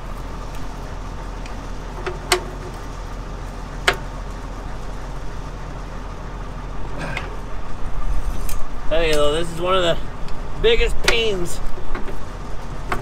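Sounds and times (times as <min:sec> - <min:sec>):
combine engine running: 0:00.0 - 0:13.0.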